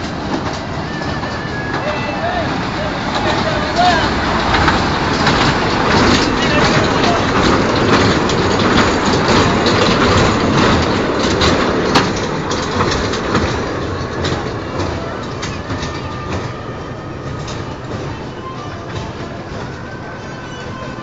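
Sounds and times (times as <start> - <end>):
ride train rumbling on track: 0.0 - 21.0
sharp track clicks: 0.0 - 21.0.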